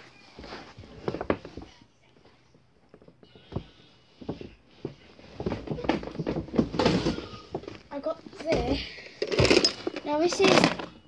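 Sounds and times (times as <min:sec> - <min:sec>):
soft knocks and rustles of handling: 0:00.0 - 0:10.9.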